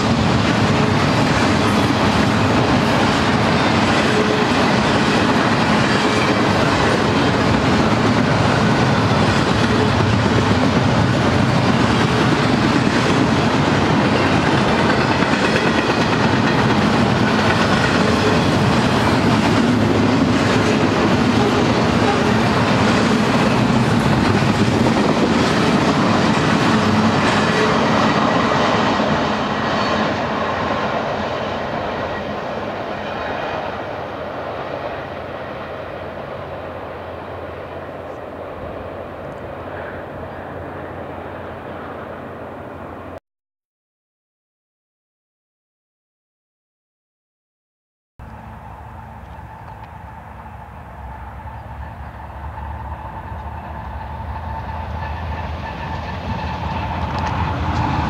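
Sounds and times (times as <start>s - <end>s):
freight train wheels rumbling on rails: 0.0s - 43.2s, 48.2s - 58.0s.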